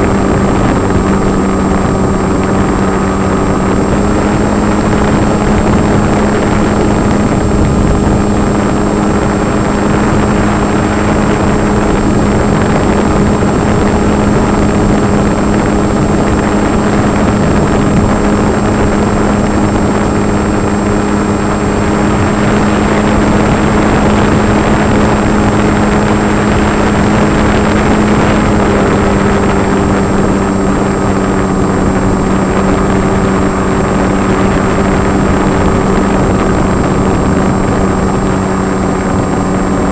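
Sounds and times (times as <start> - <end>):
electric motor and propeller: 0.0 - 39.9
wind noise rush: 0.0 - 39.9.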